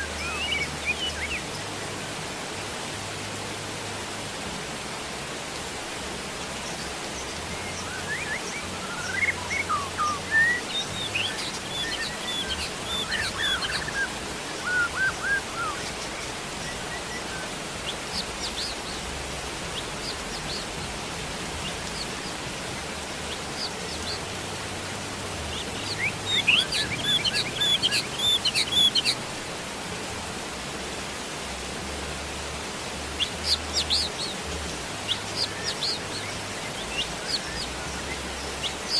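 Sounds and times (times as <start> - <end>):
rain hissing: 0.0 - 38.9
songbirds chirping: 0.0 - 38.9.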